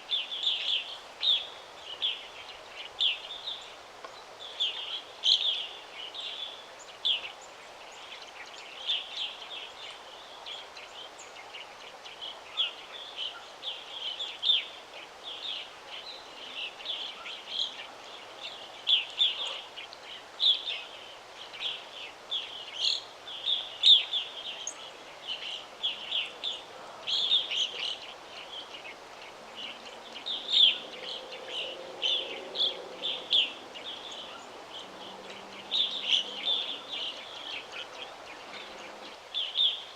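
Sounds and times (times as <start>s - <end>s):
soft steady background hiss: 0.0s - 39.9s
songbirds chirping: 0.0s - 39.9s.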